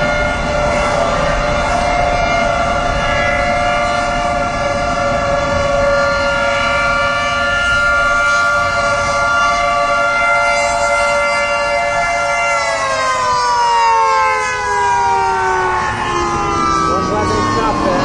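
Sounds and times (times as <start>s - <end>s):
tornado siren wailing: 0.0s - 18.0s.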